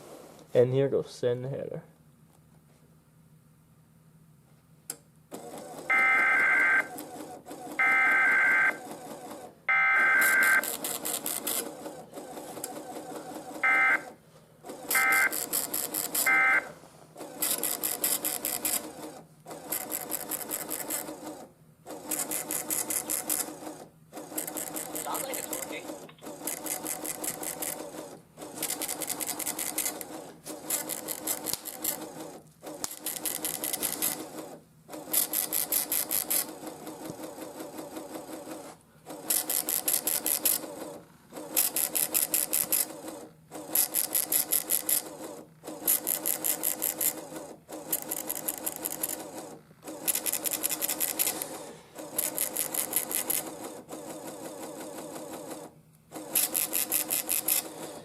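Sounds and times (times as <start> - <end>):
printer mechanical ticking: 5.4 - 58.0.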